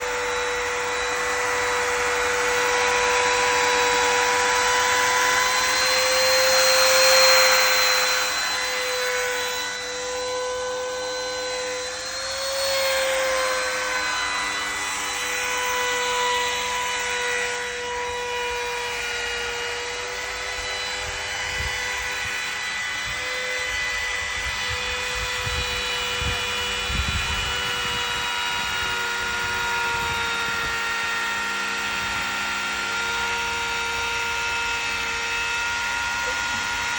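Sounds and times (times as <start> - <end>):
power tool whining into wood: 0.0 - 36.9.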